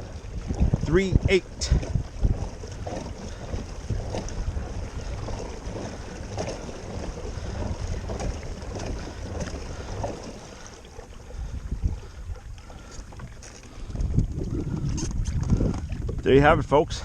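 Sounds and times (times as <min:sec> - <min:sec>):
water lapping against kayak hull: 0:00.0 - 0:17.0
wind buffeting microphone: 0:00.0 - 0:17.0.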